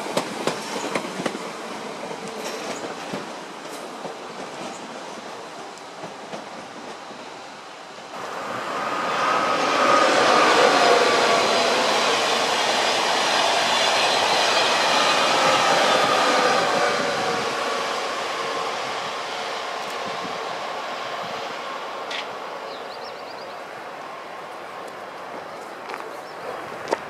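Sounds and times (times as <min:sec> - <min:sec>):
high-speed train rushing past: 0:00.0 - 0:27.0.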